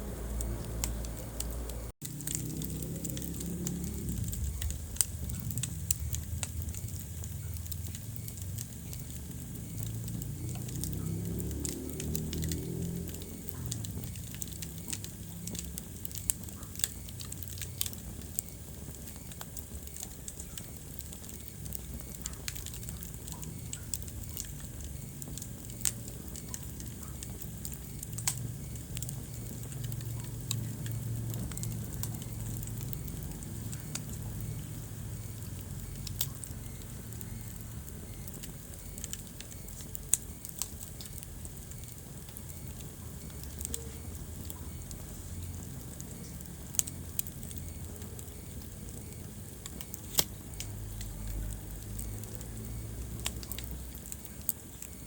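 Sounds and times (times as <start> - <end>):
fire crackles and pops: 0.0 - 55.0
fire low rumble: 0.0 - 55.0.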